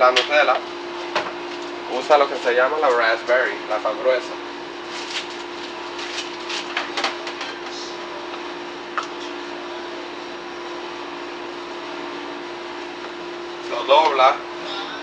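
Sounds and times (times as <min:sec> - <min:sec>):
kitchen machine motor hum: 0:00.0 - 0:15.0.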